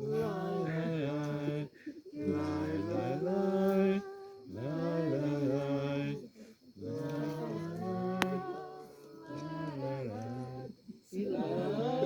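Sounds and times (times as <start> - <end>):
voices singing wordless melody: 0.0 - 12.0.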